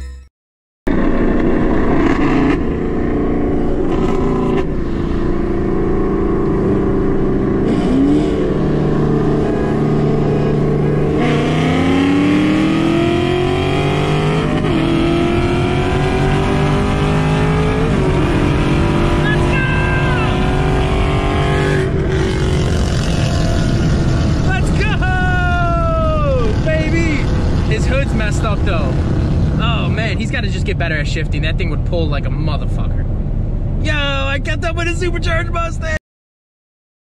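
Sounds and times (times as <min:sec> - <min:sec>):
car engine at full throttle: 0:00.9 - 0:36.0.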